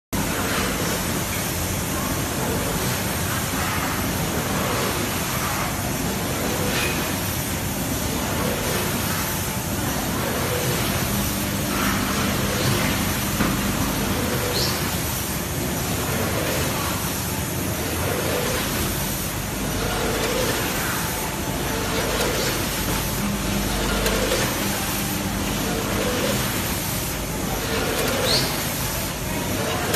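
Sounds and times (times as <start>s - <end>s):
faint machinery hum: 0.2s - 29.9s
processing machinery rushing: 0.2s - 29.9s.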